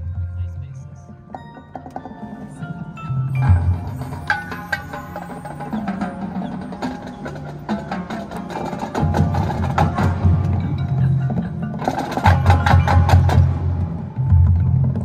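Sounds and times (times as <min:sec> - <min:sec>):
mallet notes: 0:00.1 - 0:15.0
marching band playing: 0:01.1 - 0:15.0
rapid percussion strikes: 0:01.3 - 0:15.0.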